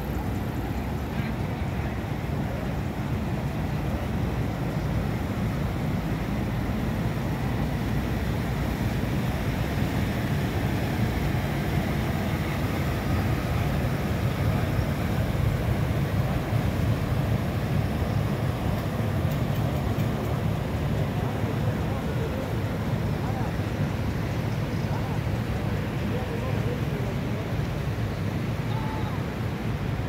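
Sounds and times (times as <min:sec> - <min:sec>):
water churning: 0:00.0 - 0:27.6
boat engines rumbling: 0:00.0 - 0:30.0.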